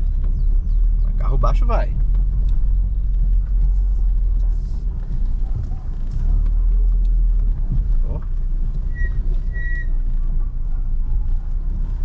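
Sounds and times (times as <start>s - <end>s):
car engine and tyres rumbling: 0.0s - 12.0s
road surface ticks: 0.0s - 12.0s.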